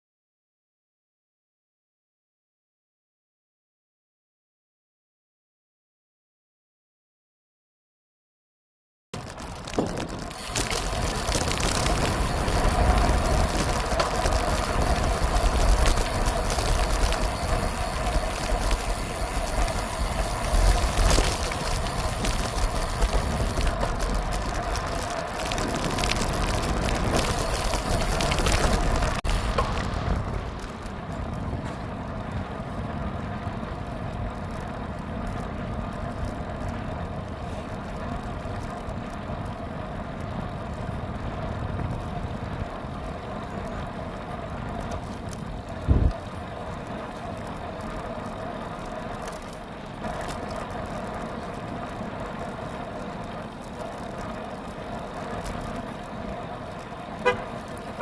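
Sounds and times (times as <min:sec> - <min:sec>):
wind and bicycle tyre noise: 0:09.2 - 0:58.0.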